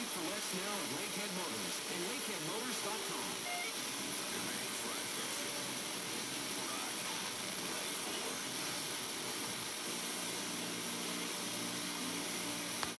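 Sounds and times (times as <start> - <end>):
faint radio tones: 0.0 - 13.0
radio static hiss: 0.0 - 13.0.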